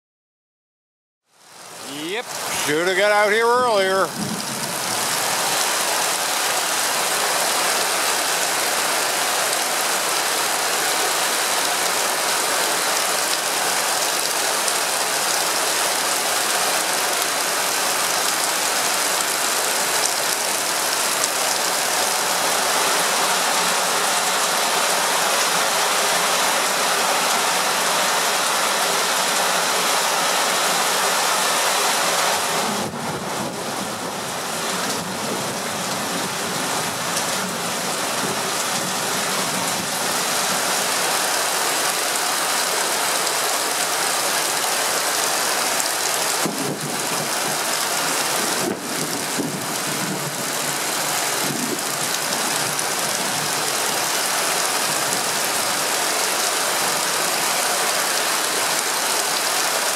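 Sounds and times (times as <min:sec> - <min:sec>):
heavy rain pouring: 0:01.4 - 0:59.9.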